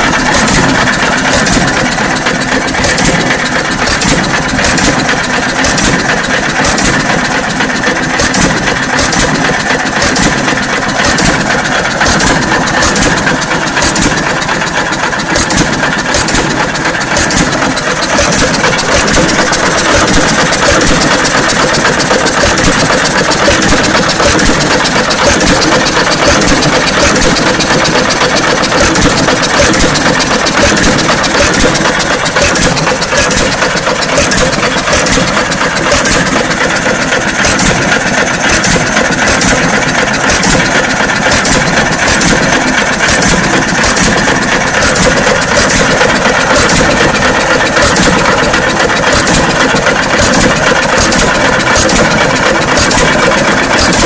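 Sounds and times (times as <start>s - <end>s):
engine sharp regular cracks: 0.0s - 54.0s
mechanical clatter: 0.0s - 54.0s.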